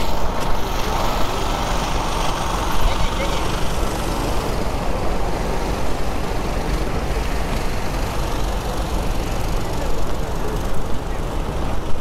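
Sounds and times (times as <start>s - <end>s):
passenger train running on track: 0.0s - 12.0s.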